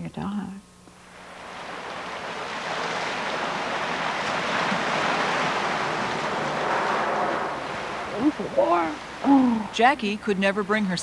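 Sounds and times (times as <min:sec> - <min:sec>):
surf breaking over rocks: 0:01.0 - 0:11.0.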